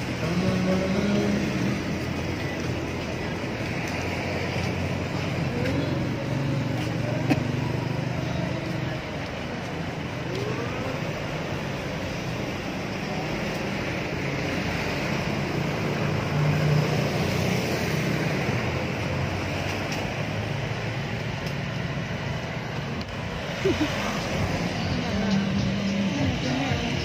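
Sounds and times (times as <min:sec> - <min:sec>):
traffic road noise: 0:00.0 - 0:27.0.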